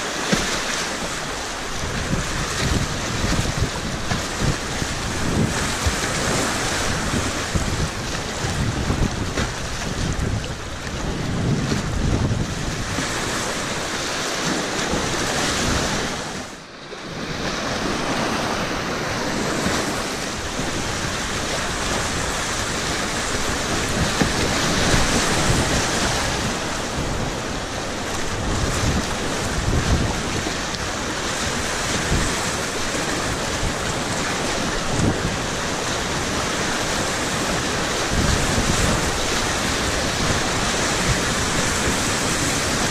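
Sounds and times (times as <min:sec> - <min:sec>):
whitewater rapids rushing: 0:00.0 - 0:42.9
wind noise on microphone: 0:00.0 - 0:42.9.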